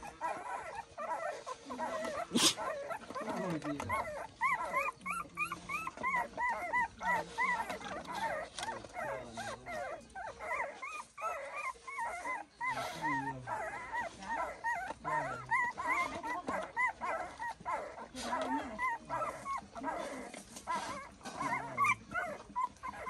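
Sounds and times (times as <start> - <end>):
puppies whimpering and squealing: 0.0 - 23.0.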